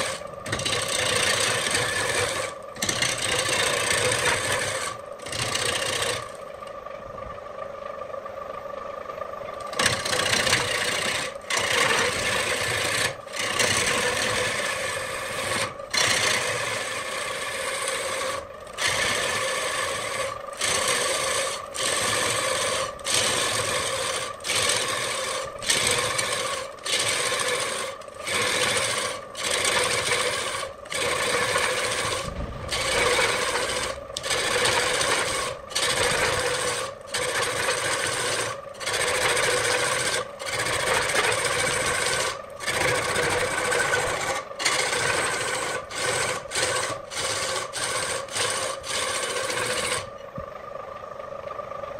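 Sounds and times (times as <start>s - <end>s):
turning tool shaving wood: 0.0s - 6.7s, 9.6s - 50.2s
wood lathe humming: 0.0s - 50.8s.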